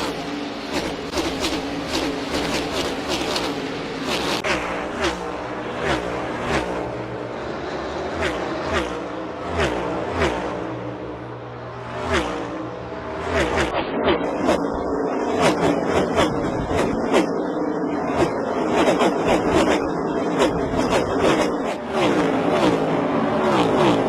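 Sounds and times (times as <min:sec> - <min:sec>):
race cars passing at speed: 0:00.0 - 0:24.0.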